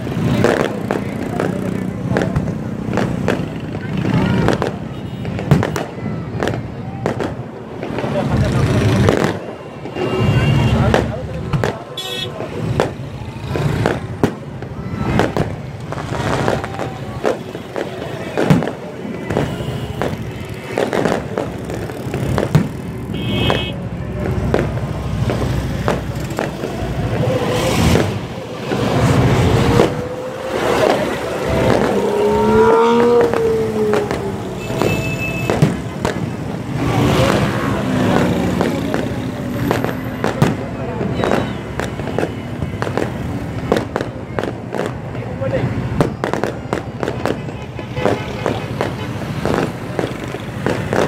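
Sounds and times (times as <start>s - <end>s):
firework bangs and crackles: 0.0s - 51.0s.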